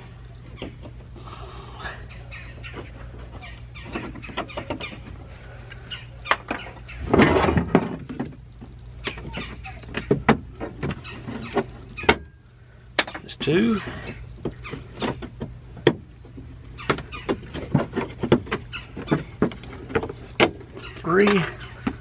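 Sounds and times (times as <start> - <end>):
steady low hum: 0.0 - 22.0
scraping and rattling: 2.3 - 12.2, 13.0 - 22.0.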